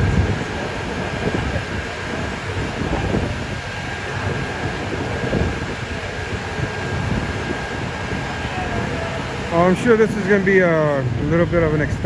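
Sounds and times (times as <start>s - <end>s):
street rumble: 0.0s - 12.0s
wind buffeting microphone: 0.0s - 12.0s.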